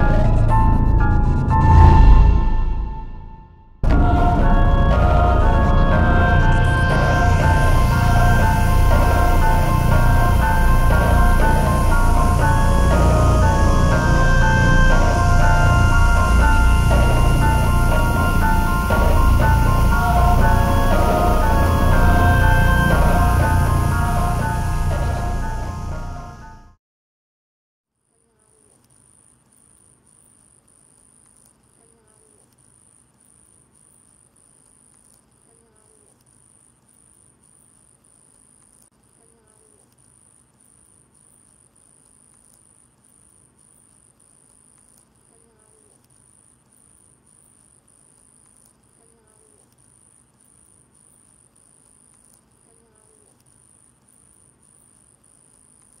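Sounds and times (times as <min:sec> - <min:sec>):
crickets chirping: 0:04.0 - 0:26.7, 0:28.2 - 0:56.0.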